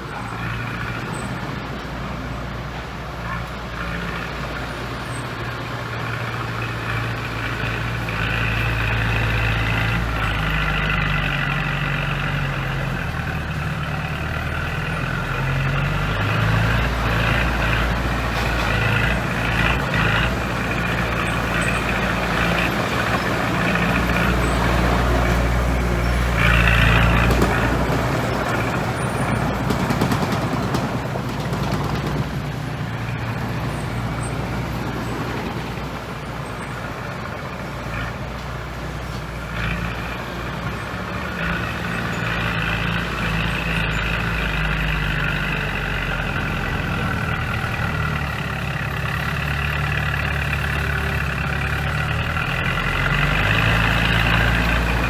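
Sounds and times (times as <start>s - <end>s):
diesel machinery engine: 0.0s - 55.0s.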